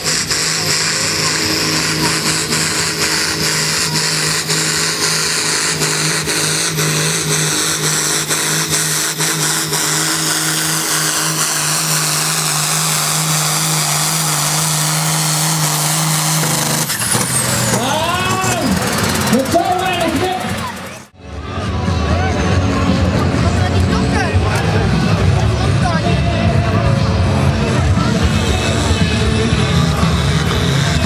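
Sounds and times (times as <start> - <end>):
high engine whine: 0.0 - 31.0
tractor engine running under load: 0.0 - 31.0.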